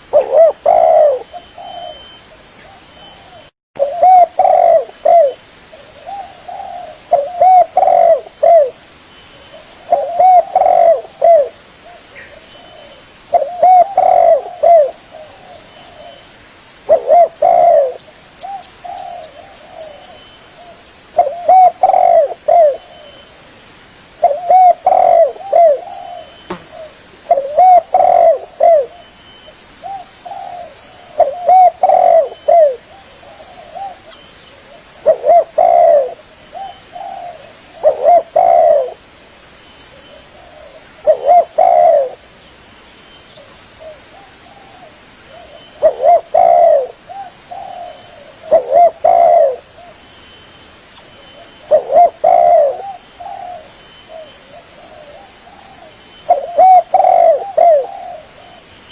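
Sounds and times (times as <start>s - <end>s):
dove cooing: 0.0s - 8.8s, 9.4s - 16.2s, 16.9s - 23.3s, 24.2s - 29.1s, 29.8s - 39.0s, 39.9s - 42.2s, 43.4s - 50.0s, 51.4s - 58.7s.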